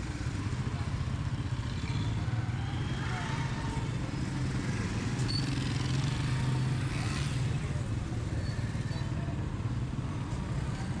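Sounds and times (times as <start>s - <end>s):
faint voices of passers-by: 0.0s - 11.0s.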